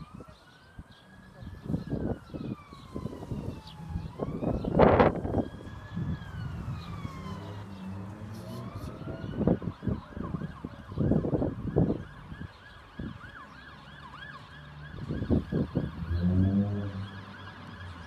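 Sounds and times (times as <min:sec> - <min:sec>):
siren wailing and yelping: 0:00.0 - 0:18.0.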